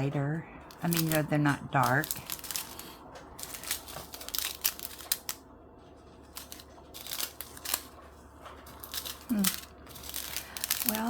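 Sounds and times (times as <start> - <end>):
plastic bags crinkling and rattling: 0.7 - 11.0.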